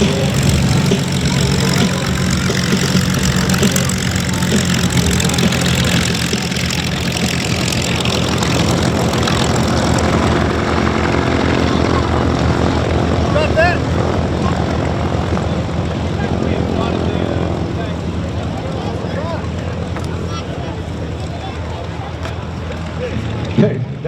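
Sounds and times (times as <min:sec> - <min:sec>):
aircraft engine idling: 0:00.0 - 0:23.6.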